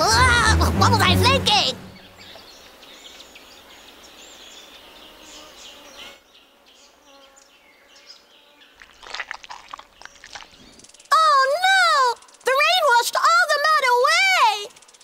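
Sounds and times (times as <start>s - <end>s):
small birds chirping: 1.9s - 15.0s
insects: 2.3s - 15.0s.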